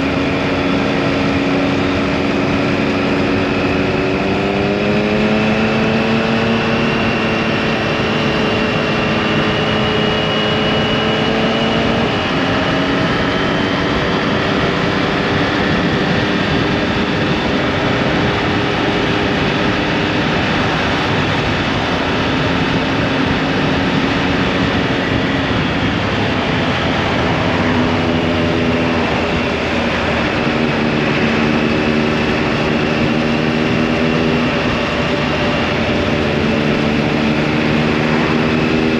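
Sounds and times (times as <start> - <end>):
motorcycle engine cruising: 0.0 - 38.9
wind noise: 0.0 - 38.9.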